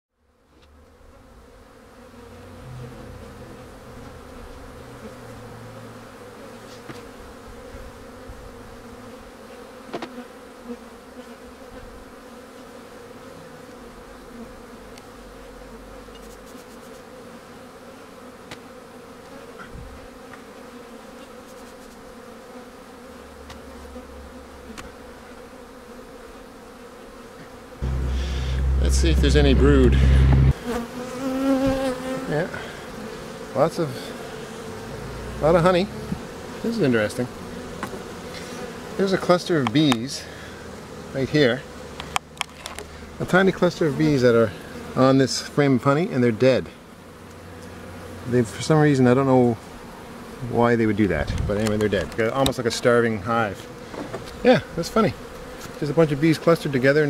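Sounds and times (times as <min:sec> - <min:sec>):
bees buzzing: 0:00.4 - 0:51.2, 0:51.8 - 0:57.0.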